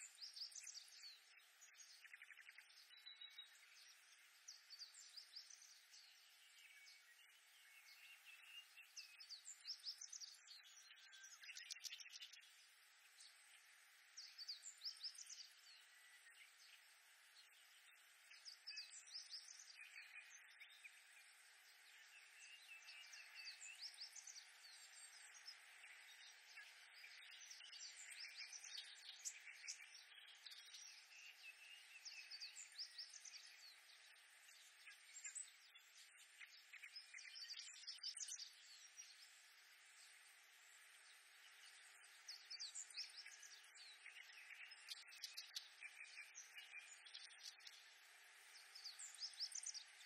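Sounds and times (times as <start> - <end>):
faint background hiss: 0.0 - 50.0
reed warblers singing: 0.0 - 50.0.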